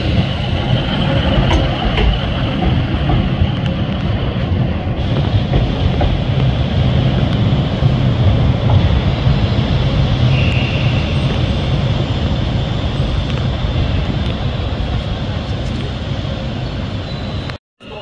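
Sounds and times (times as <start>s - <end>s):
diesel train engine droning: 0.0s - 18.0s.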